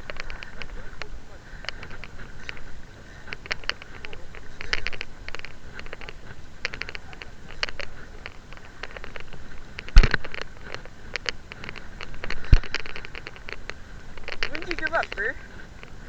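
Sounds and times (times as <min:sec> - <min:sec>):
fishing reel clicking: 0:01.6 - 0:16.0.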